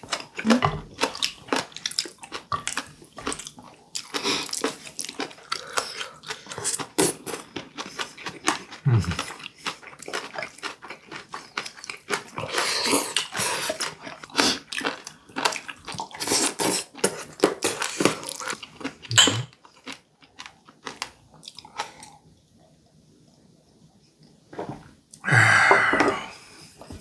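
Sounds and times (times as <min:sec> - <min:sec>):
close crunchy chewing: 0:00.0 - 0:22.2.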